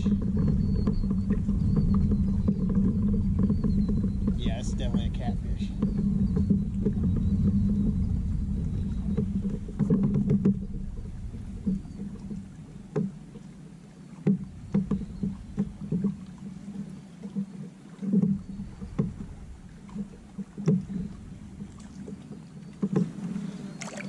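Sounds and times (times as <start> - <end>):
water lapping against kayak hull: 0.0 - 24.0.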